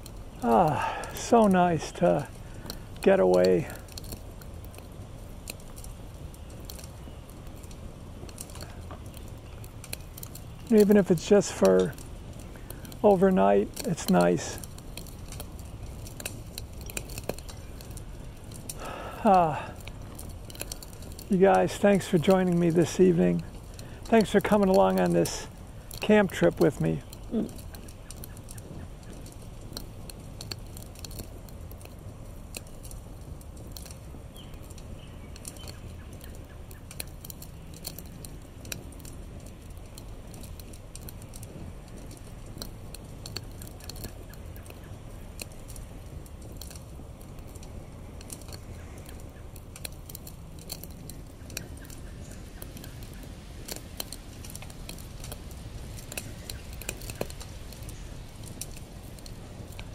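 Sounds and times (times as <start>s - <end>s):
campfire crackling and popping: 0.0s - 59.9s
low background rumble: 0.0s - 59.9s.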